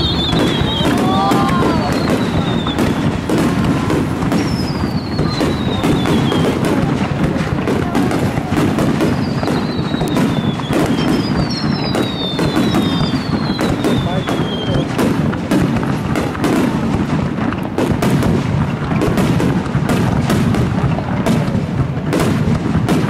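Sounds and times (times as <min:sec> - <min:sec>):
fireworks shells bursting: 0:00.0 - 0:23.0
fireworks whistling: 0:00.0 - 0:23.0.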